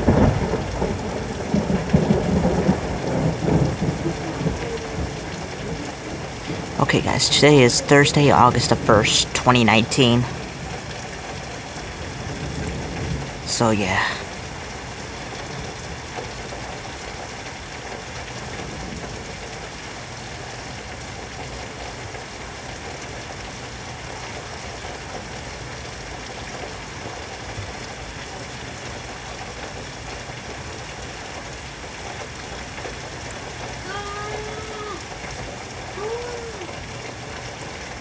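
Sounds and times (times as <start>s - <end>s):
steady rain hissing: 0.0s - 38.0s.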